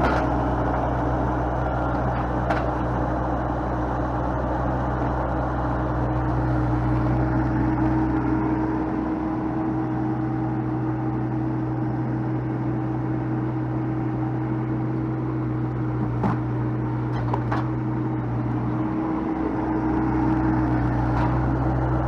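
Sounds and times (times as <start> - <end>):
heavy equipment engine running: 0.0 - 22.0.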